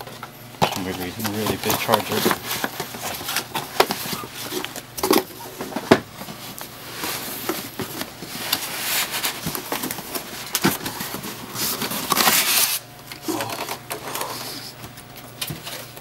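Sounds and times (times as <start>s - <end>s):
cardboard packaging handled: 0.6s - 14.2s.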